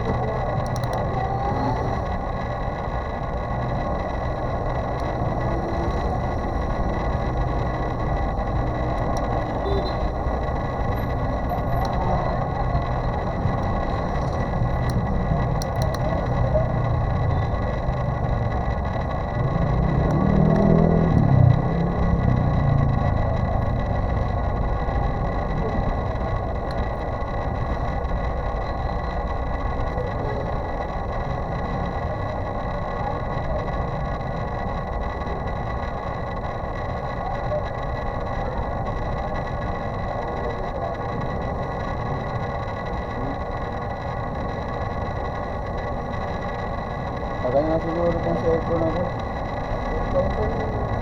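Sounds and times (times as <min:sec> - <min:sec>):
motor drone with high whines: 0:00.0 - 0:51.0.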